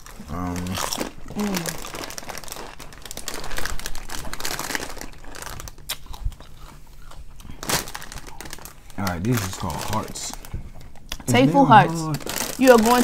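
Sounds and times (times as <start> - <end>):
person chewing crunchy chips: 0.0 - 11.3, 12.0 - 13.0.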